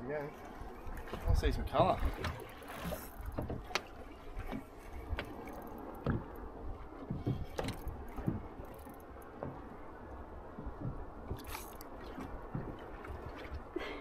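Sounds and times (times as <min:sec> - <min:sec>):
water against boat: 0:00.0 - 0:14.0
wind: 0:00.0 - 0:14.0.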